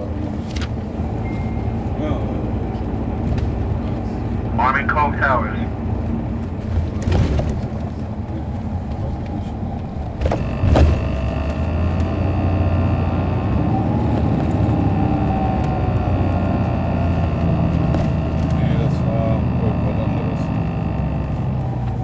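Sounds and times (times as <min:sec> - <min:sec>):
diesel bus engine humming: 0:00.0 - 0:22.0
engine whine: 0:00.0 - 0:22.0.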